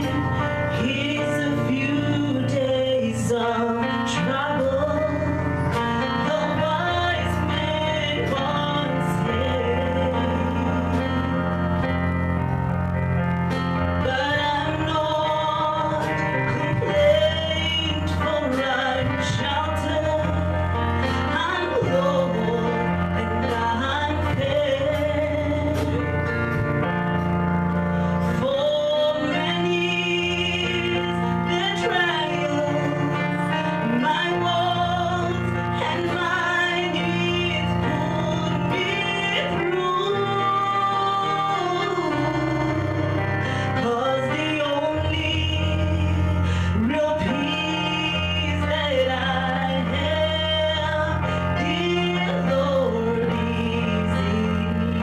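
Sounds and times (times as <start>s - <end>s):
woman singing gospel song: 0.0s - 12.0s, 13.8s - 26.9s, 28.0s - 55.0s
instrumental accompaniment: 0.0s - 55.0s.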